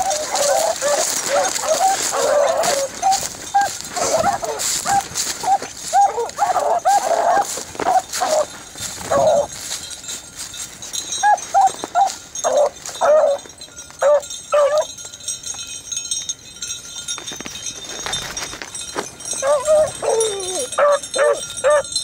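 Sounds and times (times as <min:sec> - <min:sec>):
hounds baying: 0:00.0 - 0:15.0, 0:18.9 - 0:22.0.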